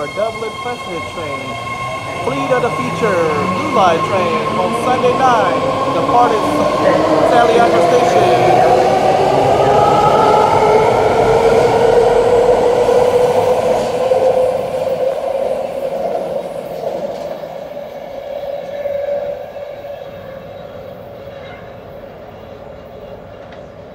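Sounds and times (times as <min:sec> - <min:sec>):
train wheels rumbling on rails: 0:00.0 - 0:21.2.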